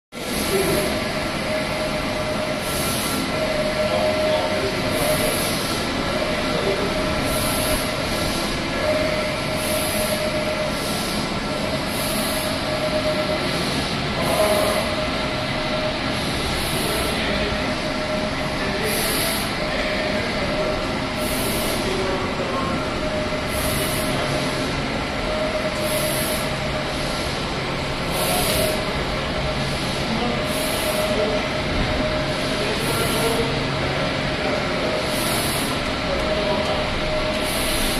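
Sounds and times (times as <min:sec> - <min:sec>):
print head hiss and whine: 0:00.2 - 0:37.9
printer mechanical hum: 0:00.2 - 0:37.9.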